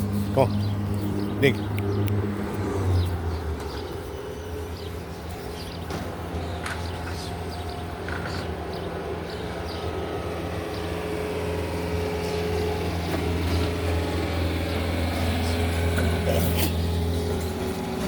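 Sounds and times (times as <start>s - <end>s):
lawnmower engine running: 2.2s - 18.0s.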